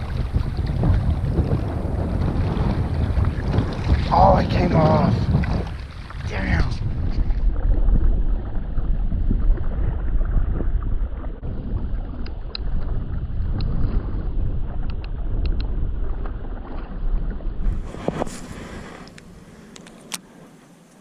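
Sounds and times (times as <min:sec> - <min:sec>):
wind buffeting microphone: 0:00.0 - 0:20.4.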